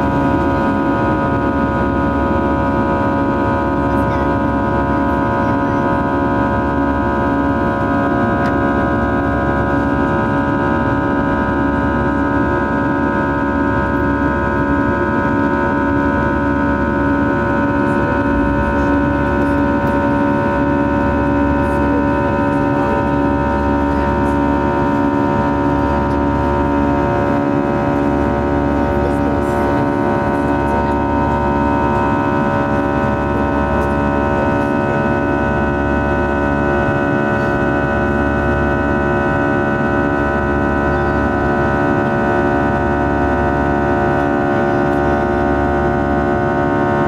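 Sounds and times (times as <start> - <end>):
jet engine cabin drone: 0.0 - 47.0
steady engine whining tones: 0.0 - 47.0.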